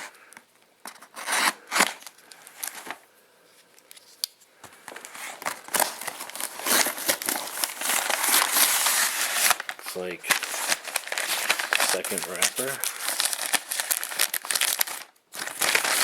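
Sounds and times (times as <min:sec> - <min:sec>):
packaging crinkling and rustling: 0:00.8 - 0:03.1, 0:03.7 - 0:16.0.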